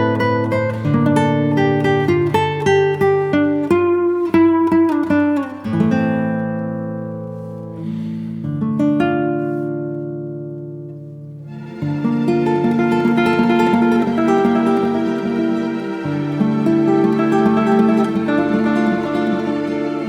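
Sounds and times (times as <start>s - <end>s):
acoustic guitar picking and chords: 0.0s - 20.0s.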